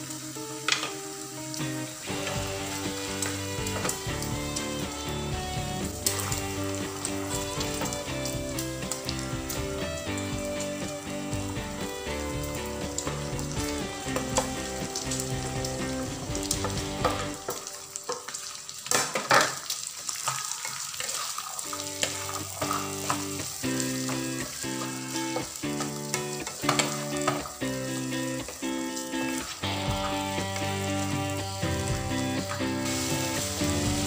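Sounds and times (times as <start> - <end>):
background music: 0.0 - 18.9, 21.8 - 34.0
food sizzling in a frying pan: 0.0 - 34.0.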